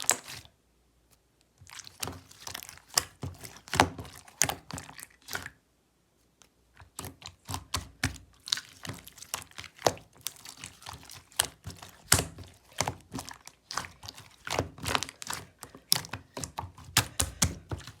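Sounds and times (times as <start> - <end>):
slime squished by hand: 0.0 - 0.5, 1.6 - 5.6, 6.8 - 18.0.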